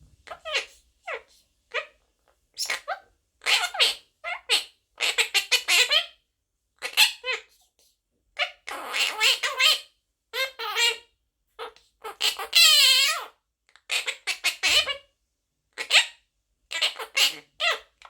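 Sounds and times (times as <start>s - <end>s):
parrot chattering and squawking: 0.2s - 6.2s, 6.8s - 7.5s, 8.4s - 15.1s, 15.8s - 18.0s.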